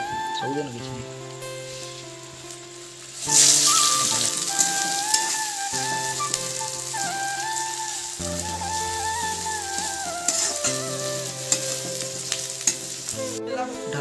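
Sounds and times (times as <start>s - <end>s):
flute music: 0.0s - 14.0s
onions sizzling in hot oil: 0.0s - 14.0s.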